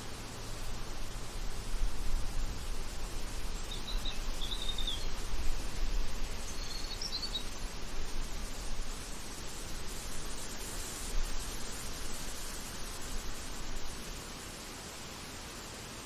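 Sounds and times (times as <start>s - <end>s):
songbird chirping: 0.0s - 14.0s
steady outdoor hiss: 0.0s - 16.0s.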